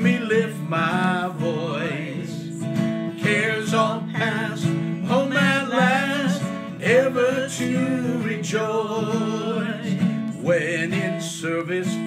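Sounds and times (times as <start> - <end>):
man singing a hymn: 0.0 - 12.0
strummed acoustic guitar: 0.0 - 12.0.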